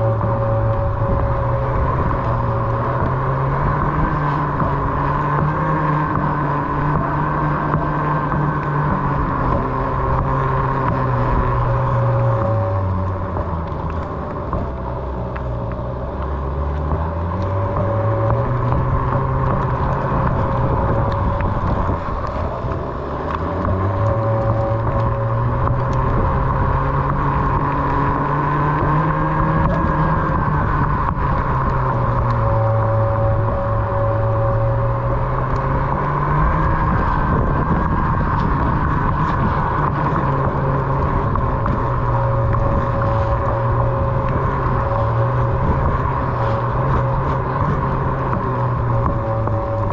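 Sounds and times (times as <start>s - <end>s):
electric motor whining: 0.0s - 49.9s
tyre and wind rumble: 0.0s - 49.9s.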